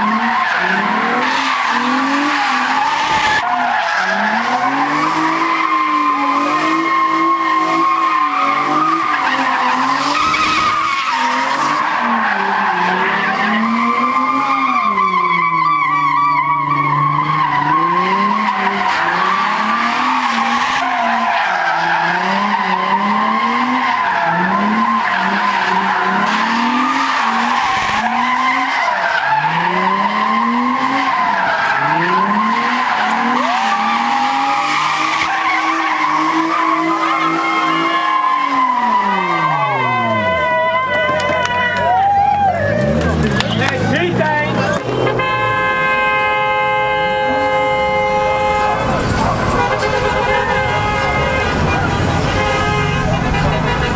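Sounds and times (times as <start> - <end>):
tyres squealing: 0.0 - 45.6, 46.8 - 53.9
car engine revving: 0.0 - 53.9.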